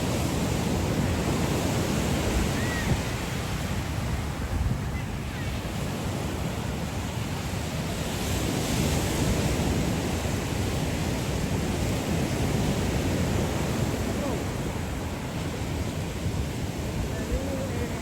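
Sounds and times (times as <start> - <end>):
surf washing on sandy beach: 0.0 - 18.0
wind rumbling on microphone: 0.0 - 18.0.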